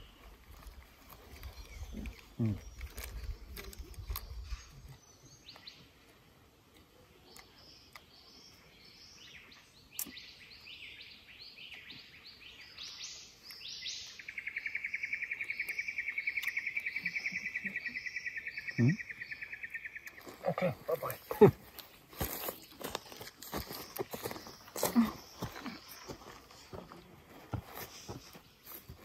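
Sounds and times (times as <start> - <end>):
birds calling: 0.0 - 6.2, 7.1 - 29.0.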